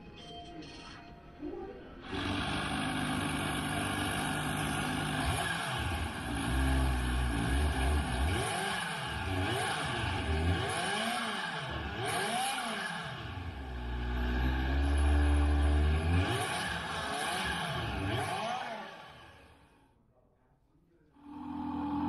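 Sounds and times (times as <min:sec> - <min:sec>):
motorcycle engine revving over loudspeakers: 0:02.1 - 0:19.6, 0:21.2 - 0:22.0.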